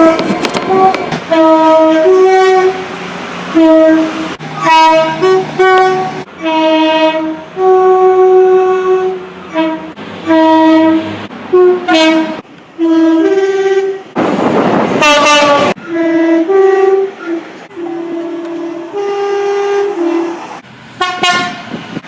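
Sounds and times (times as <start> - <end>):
train horn blasts: 0.0 - 14.2, 15.0 - 20.4, 21.0 - 21.8.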